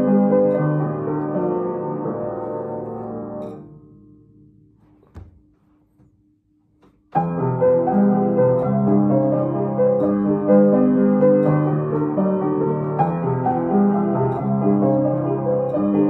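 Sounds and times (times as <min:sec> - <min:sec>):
upright piano playing: 0:00.0 - 0:04.7, 0:07.1 - 0:16.0.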